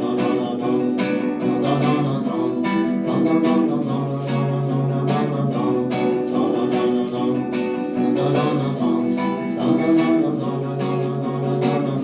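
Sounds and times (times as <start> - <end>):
steady beat: 0.0 - 12.0
strummed guitar: 0.0 - 12.0.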